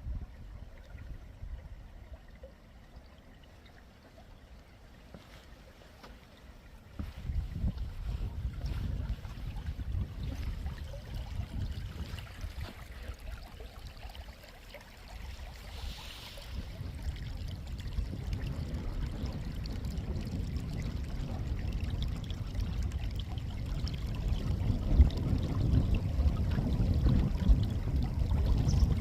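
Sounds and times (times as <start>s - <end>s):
wind buffeting microphone: 0.0s - 2.0s, 6.9s - 14.2s, 15.1s - 29.0s.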